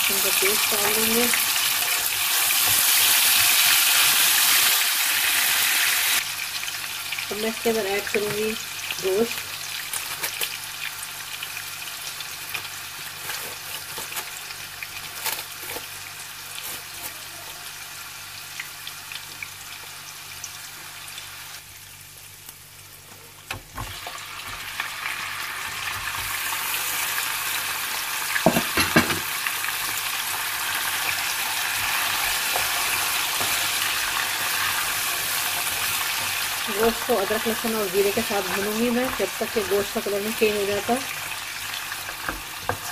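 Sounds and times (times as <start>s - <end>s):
food sizzling in frying pan: 0.0s - 42.9s.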